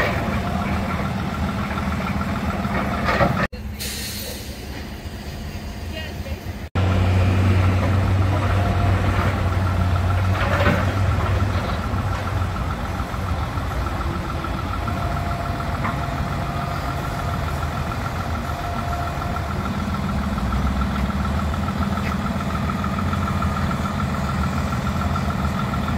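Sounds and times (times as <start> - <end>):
heavy diesel engines running: 0.0 - 25.9.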